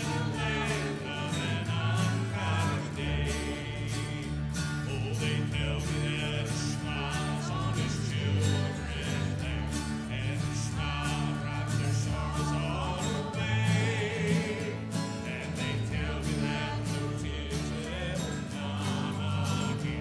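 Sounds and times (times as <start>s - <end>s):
strummed acoustic guitar chords: 0.0s - 20.0s.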